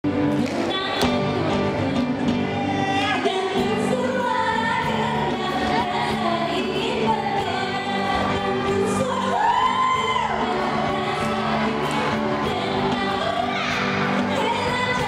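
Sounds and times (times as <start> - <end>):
guitar: 0.0 - 15.0
women singing pop song: 0.1 - 15.0.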